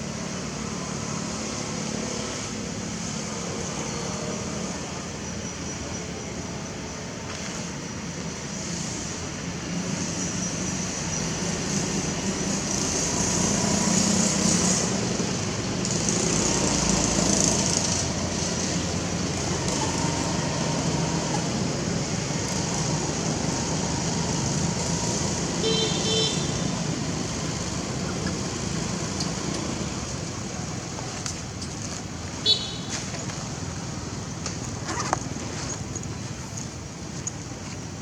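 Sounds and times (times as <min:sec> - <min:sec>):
road traffic noise: 0:00.0 - 0:38.0.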